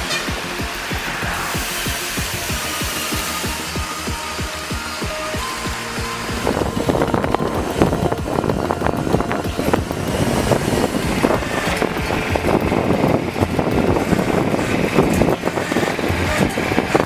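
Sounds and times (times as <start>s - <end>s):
heavy truck running: 0.0s - 17.0s
mechanical clattering: 0.0s - 17.0s.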